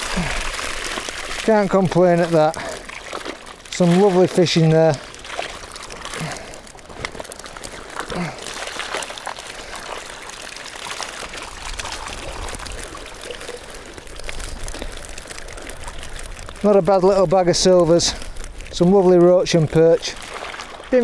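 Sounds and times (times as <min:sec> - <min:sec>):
small splashes: 0:00.0 - 0:16.7, 0:18.0 - 0:21.0
water pouring through mesh: 0:00.0 - 0:21.0
wet mesh rustling: 0:00.0 - 0:21.0.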